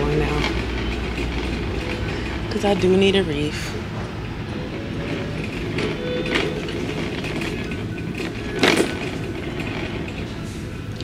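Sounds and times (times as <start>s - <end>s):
shopping cart wheels rattling: 0.0s - 11.0s.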